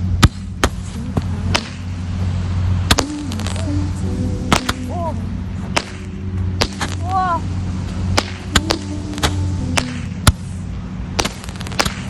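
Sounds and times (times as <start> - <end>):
steady low hum: 0.0 - 12.0
small fireworks cracking: 0.2 - 2.0, 2.9 - 7.4, 8.0 - 12.0.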